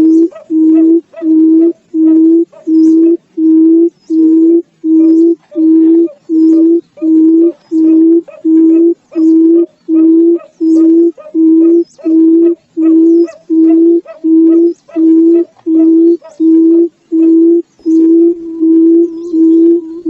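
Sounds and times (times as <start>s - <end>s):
bird giving low hollow hooting call: 0.0s - 20.0s.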